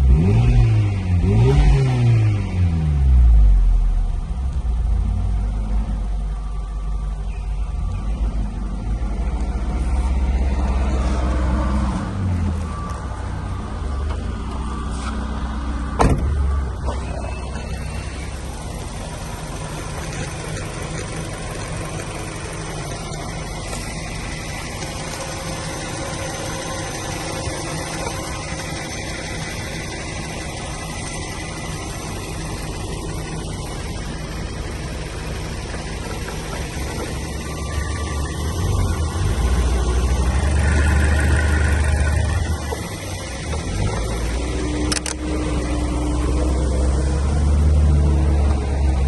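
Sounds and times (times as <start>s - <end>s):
car engine running: 0.0s - 49.0s.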